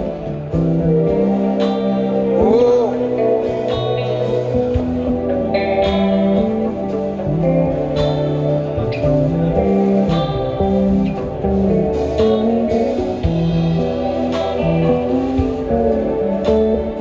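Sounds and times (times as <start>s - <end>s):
bass line: 0.0s - 17.0s
drum and cymbal hits: 0.0s - 17.0s
guitar: 0.0s - 17.0s.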